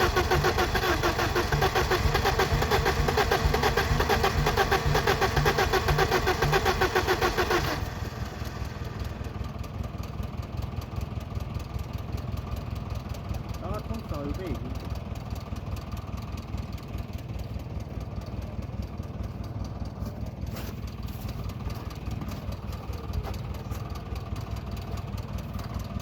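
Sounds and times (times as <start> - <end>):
starter motor cranking engine: 0.0 - 11.1, 13.0 - 26.0.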